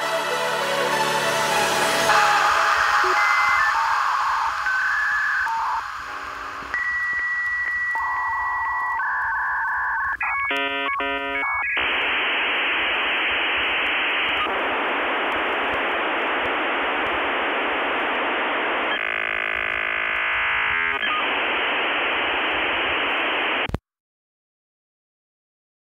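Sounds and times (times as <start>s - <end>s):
electronic static hiss: 1.8s - 23.8s.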